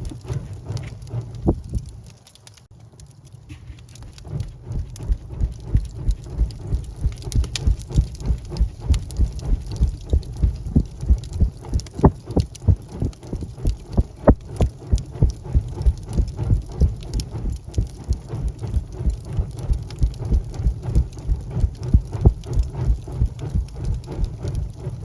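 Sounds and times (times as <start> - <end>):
low rumble: 0.0 - 25.0
wood fire crackling and popping: 0.0 - 25.0.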